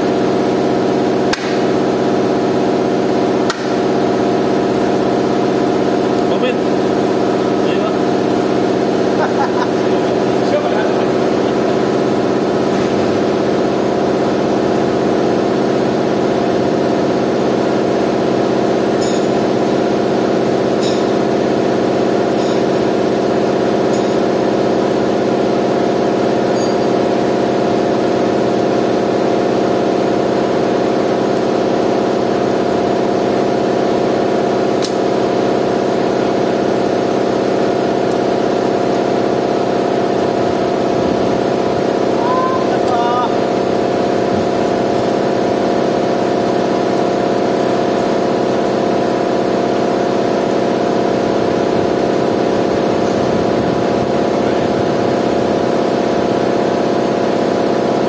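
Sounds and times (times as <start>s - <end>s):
steady machine drone: 0.0s - 58.0s.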